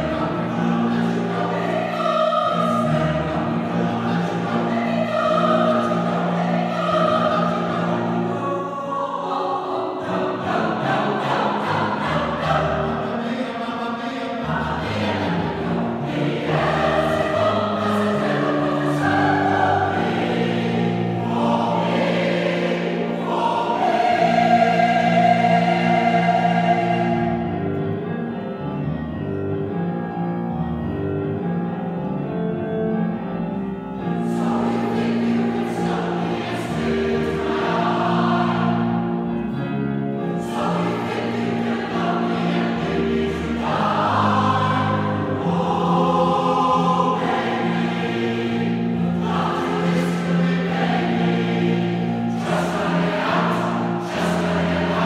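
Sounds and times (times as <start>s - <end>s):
choir singing in harmony: 0.0s - 55.0s.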